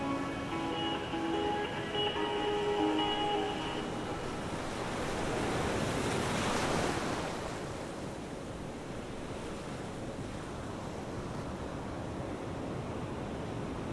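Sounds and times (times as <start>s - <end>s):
wave washing in: 0.0s - 12.0s.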